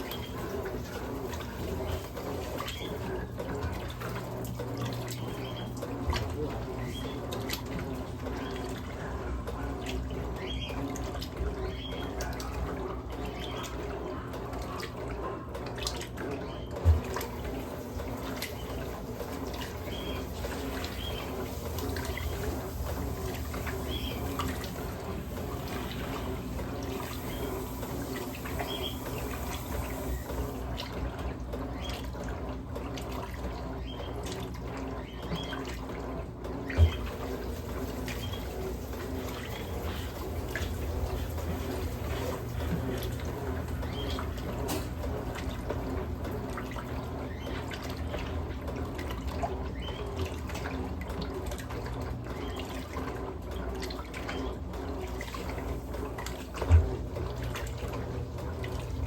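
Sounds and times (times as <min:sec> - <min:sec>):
washing machine humming: 0:00.0 - 0:59.0
water splashing in washing machine: 0:00.0 - 0:59.0.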